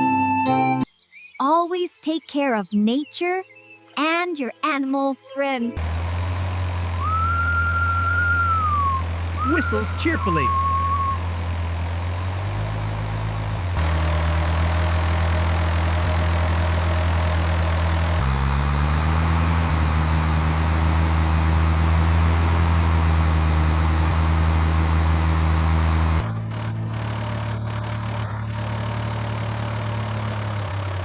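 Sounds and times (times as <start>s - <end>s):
engine running: 5.8s - 31.0s.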